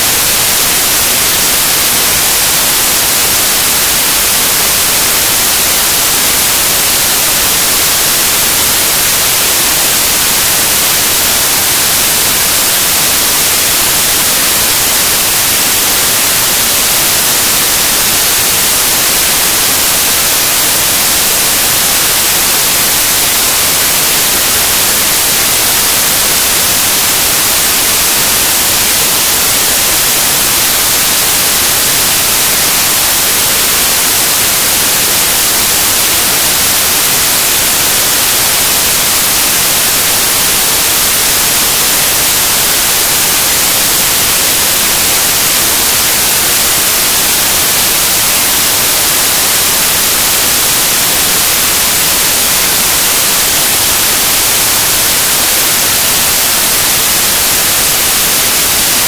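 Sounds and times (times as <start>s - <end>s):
loud static hiss: 0.0s - 59.0s.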